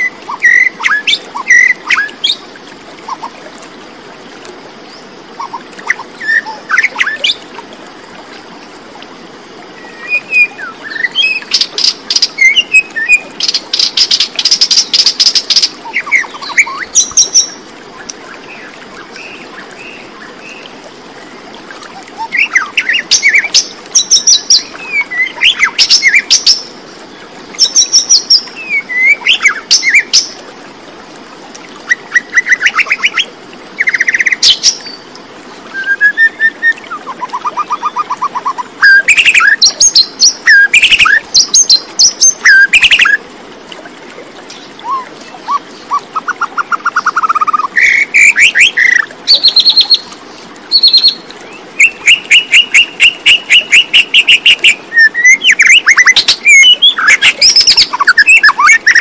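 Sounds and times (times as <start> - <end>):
songbird singing: 0.0 - 3.3, 9.7 - 30.4, 31.8 - 43.2, 44.4 - 59.0.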